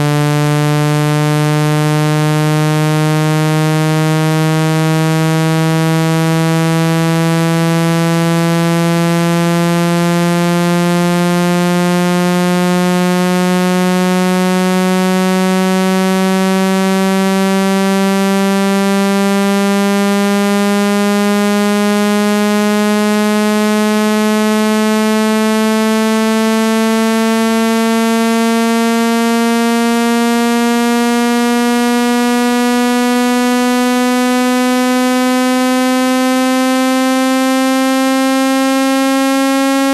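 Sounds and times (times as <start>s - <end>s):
buzzy electronic tone rising in pitch: 0.0s - 39.9s.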